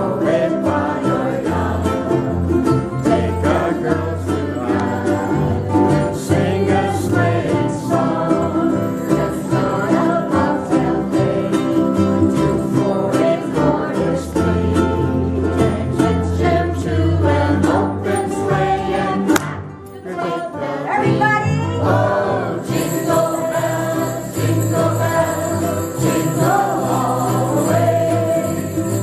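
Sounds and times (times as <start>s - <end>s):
ukuleles strumming chords: 0.0s - 29.0s.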